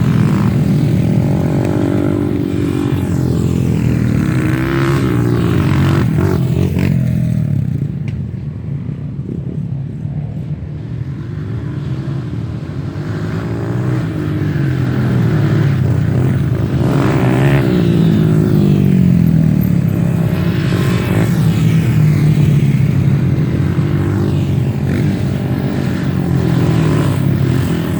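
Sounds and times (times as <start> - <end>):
dirt bike engine revving: 0.0 - 7.8, 11.3 - 27.9.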